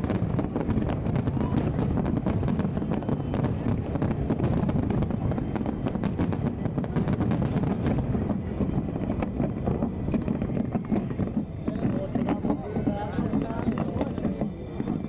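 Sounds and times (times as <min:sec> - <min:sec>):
firework crackles and pops: 0:00.0 - 0:15.0
rumble of firework shell bursts: 0:00.0 - 0:15.0.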